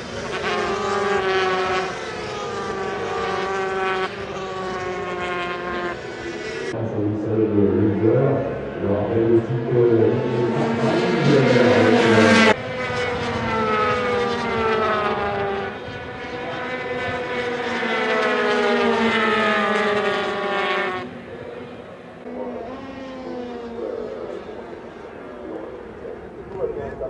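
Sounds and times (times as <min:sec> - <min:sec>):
two-stroke engines revving high: 0:00.0 - 0:06.8, 0:07.9 - 0:26.0.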